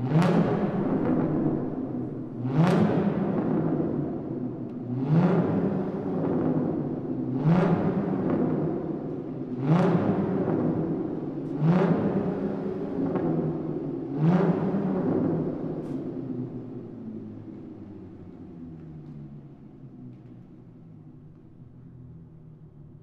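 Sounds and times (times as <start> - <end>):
car engine revving with echo: 0.0 - 23.0.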